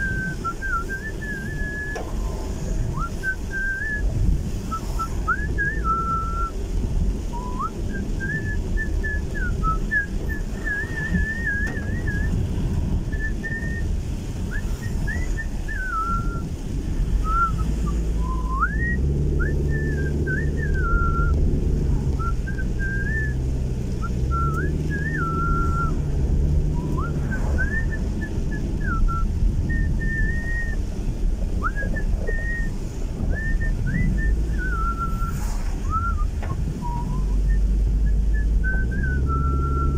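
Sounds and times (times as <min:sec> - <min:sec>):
person whistling a tune: 0:00.0 - 0:02.1, 0:02.9 - 0:04.1, 0:04.7 - 0:06.6, 0:07.3 - 0:12.4, 0:13.1 - 0:13.9, 0:14.5 - 0:16.5, 0:17.2 - 0:21.5, 0:22.2 - 0:23.4, 0:24.0 - 0:26.0, 0:26.7 - 0:30.9, 0:31.6 - 0:39.9
car engine and road noise: 0:00.0 - 0:39.9.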